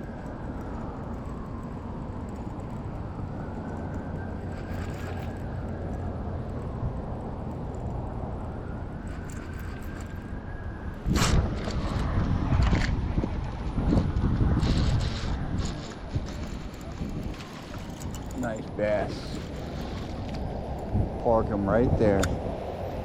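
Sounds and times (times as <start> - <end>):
electric motor rumble and whine: 0.0 - 23.0.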